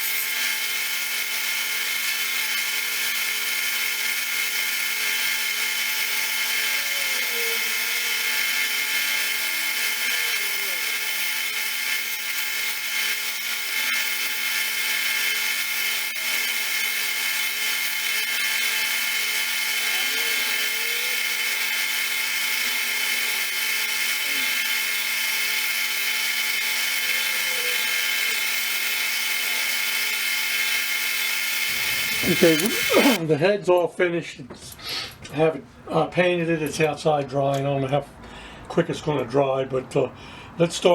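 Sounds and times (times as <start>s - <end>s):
power sander grinding metal: 0.0s - 33.2s.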